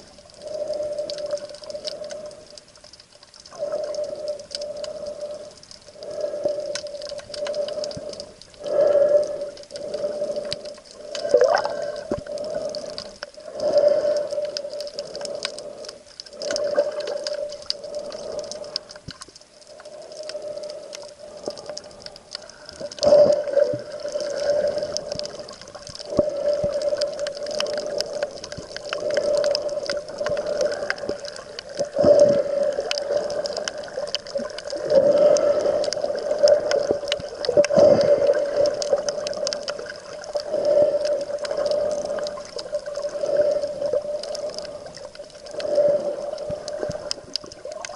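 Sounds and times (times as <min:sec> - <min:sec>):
muffled underwater sea noise: 0:00.0 - 0:47.9
small clicks: 0:00.1 - 0:47.9.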